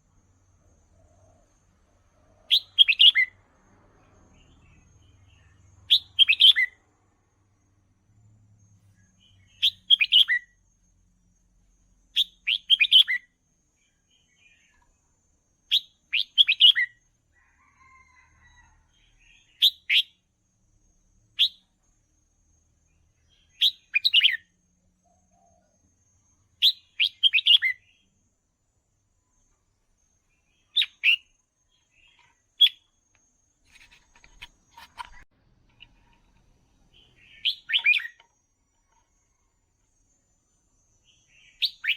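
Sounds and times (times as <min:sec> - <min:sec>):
bird chirping: 0:00.0 - 0:06.8, 0:08.6 - 0:10.9, 0:11.6 - 0:17.1, 0:18.9 - 0:20.3, 0:21.3 - 0:28.2, 0:29.2 - 0:41.9.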